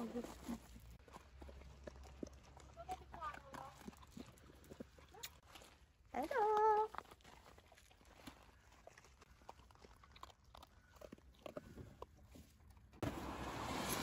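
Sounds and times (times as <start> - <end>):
dog chewing dry kibble: 1.0 - 12.9.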